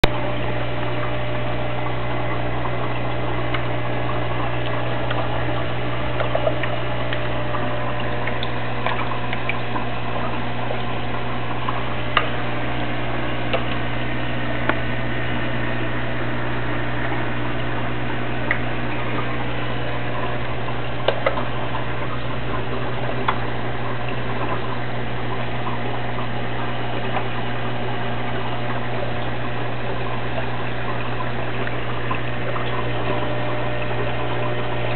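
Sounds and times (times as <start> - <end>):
aquarium pump hum: 0.0 - 34.9
bubbling water: 0.0 - 34.9.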